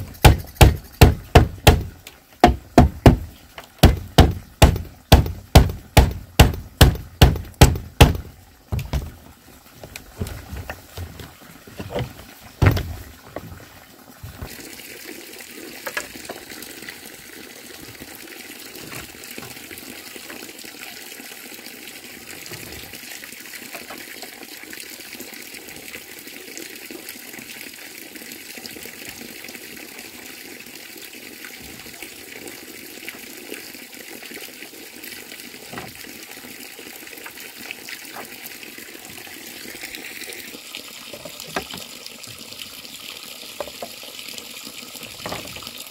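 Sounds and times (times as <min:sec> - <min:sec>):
running water rushing: 0:00.0 - 0:26.2, 0:28.4 - 0:45.9.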